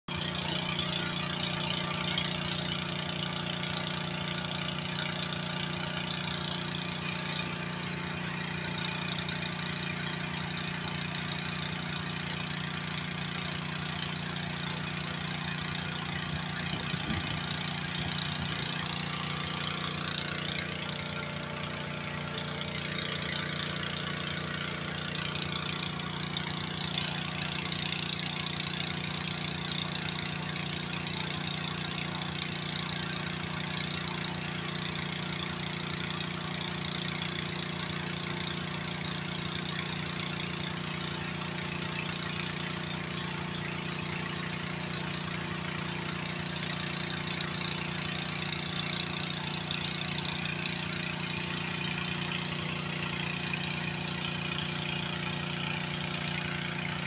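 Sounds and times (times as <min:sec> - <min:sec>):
boat engine droning: 0:00.1 - 0:57.0.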